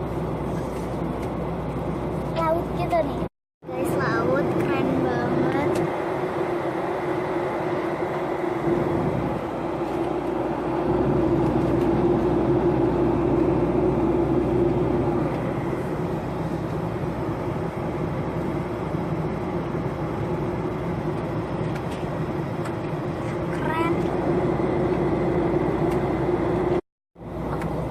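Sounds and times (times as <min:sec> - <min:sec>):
airliner cabin engine rush: 0:00.0 - 0:27.9.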